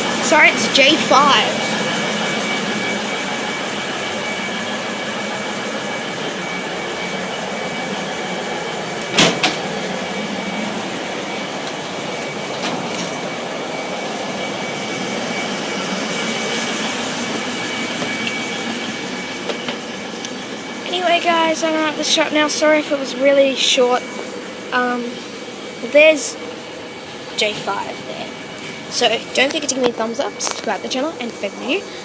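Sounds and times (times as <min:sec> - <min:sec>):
constant whine: 0:00.0 - 0:32.0
railcar engine and rail noise: 0:00.0 - 0:32.0.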